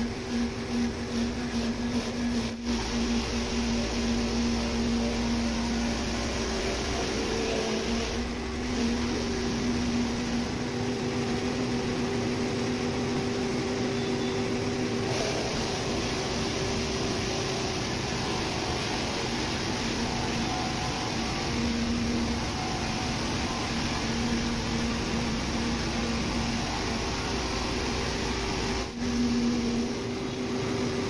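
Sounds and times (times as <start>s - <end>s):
workshop machinery humming: 0.0s - 31.0s.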